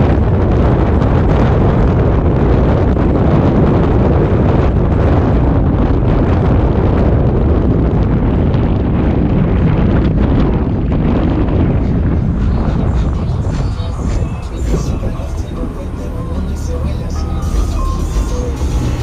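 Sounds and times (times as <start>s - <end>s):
road and engine noise: 0.0s - 19.0s
wind buffeting microphone: 0.0s - 19.0s.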